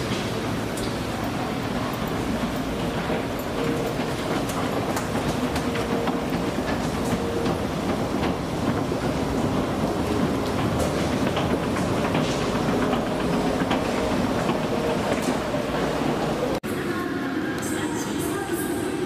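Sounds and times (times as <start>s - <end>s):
escalator rumbling: 0.0s - 16.6s
escalator steps clattering: 0.0s - 16.6s.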